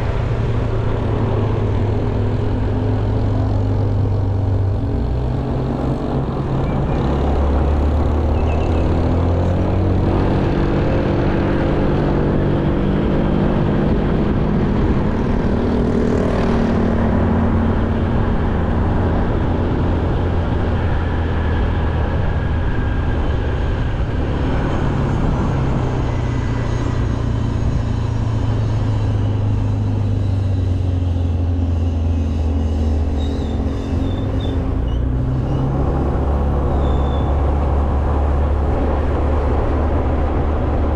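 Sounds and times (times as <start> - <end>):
steady rushing noise: 0.0 - 40.9
vehicle engine humming: 0.0 - 40.9.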